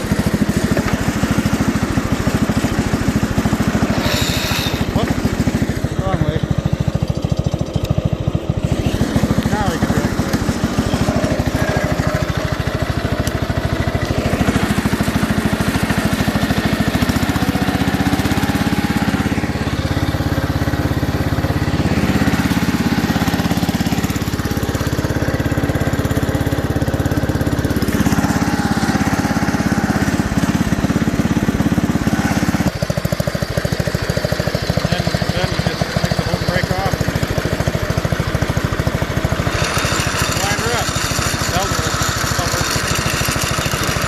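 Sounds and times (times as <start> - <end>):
garden tractor engine running: 0.0 - 44.0.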